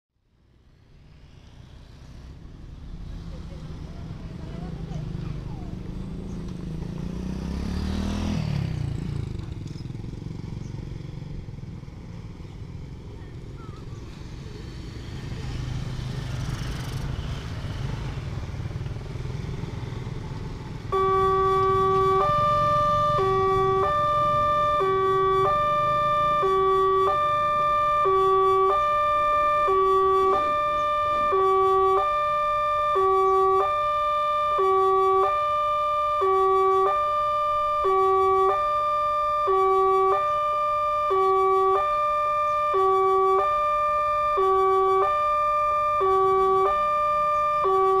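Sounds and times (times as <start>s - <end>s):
motorcycle passing: 0.3s - 48.0s.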